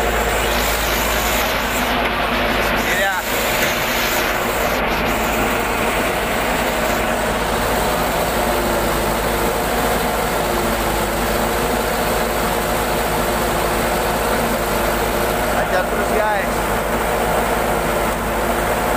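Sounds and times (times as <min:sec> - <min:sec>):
truck engine running: 0:00.0 - 0:18.9.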